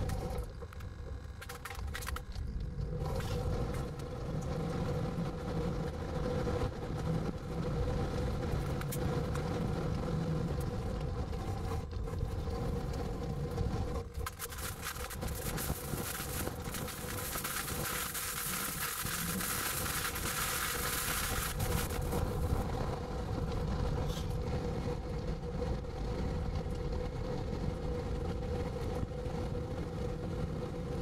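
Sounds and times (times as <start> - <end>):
faint steady hum: 0.0 - 31.0
vehicle engine and tyres rumbling: 0.0 - 31.0.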